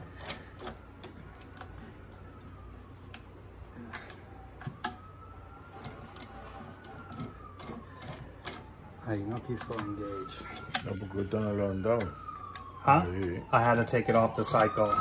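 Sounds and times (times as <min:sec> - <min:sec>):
faint whine: 0:00.0 - 0:15.0.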